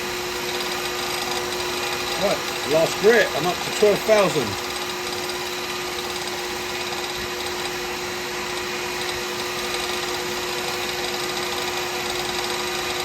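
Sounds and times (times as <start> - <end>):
wood lathe humming: 0.0 - 13.0.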